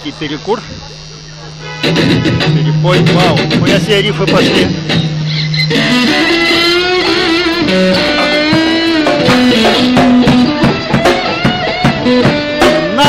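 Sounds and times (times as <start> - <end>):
electric guitar lead with vibrato: 0.0 - 13.0
band playing: 1.4 - 13.0
sharp percussive hits: 1.8 - 13.0.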